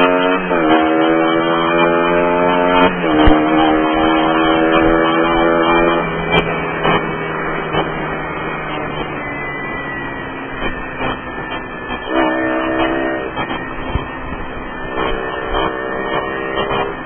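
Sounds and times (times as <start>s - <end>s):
motorcycle engine: 0.0s - 17.0s
wind and road noise: 0.0s - 17.0s.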